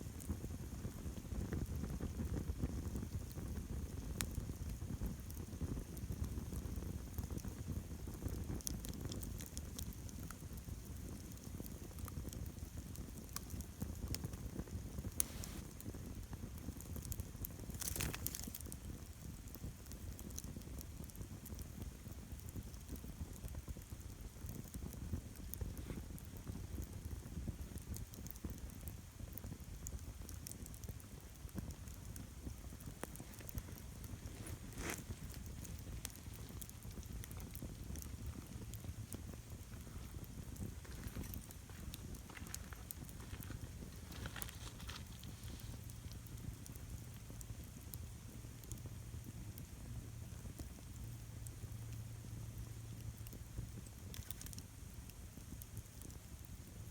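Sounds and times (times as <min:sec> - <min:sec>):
campfire flame rushing: 0:00.0 - 0:56.9
fire crackling and popping: 0:00.0 - 0:56.9.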